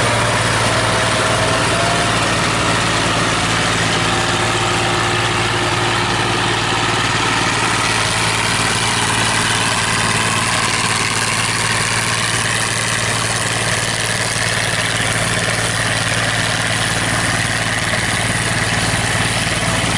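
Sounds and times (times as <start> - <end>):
forage harvester machinery drone: 0.0 - 19.9.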